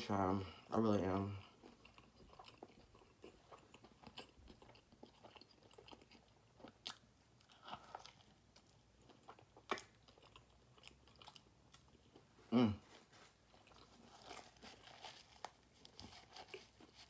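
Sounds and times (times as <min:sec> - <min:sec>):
chewing and biting sandwich: 0:01.3 - 0:17.0.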